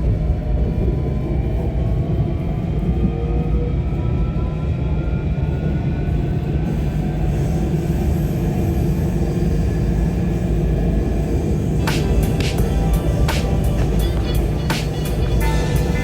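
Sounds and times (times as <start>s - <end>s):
tram rumbling along rails: 0.0s - 16.0s.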